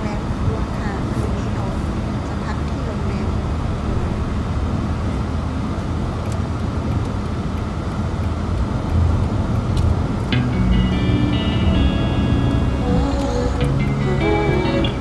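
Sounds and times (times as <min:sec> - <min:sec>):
vehicle rumble on road: 0:00.0 - 0:15.0.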